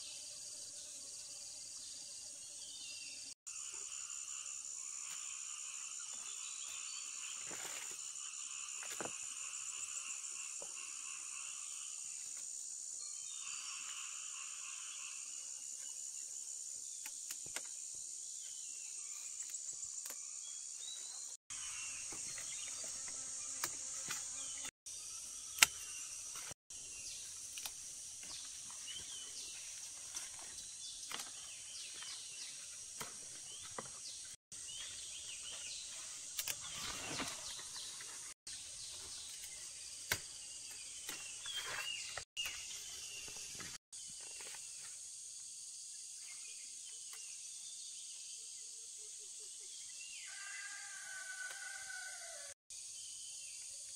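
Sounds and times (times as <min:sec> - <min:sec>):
insects buzzing: 0:00.0 - 0:48.7.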